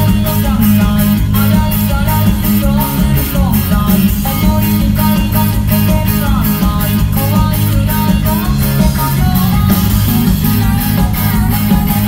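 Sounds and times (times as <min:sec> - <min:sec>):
live pop-rock band music: 0:00.0 - 0:12.0.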